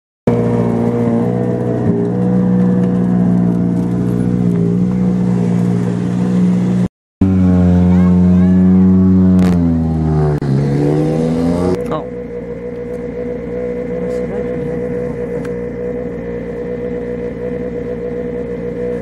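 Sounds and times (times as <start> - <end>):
rally car engine running at low revs: 0.3 - 19.0.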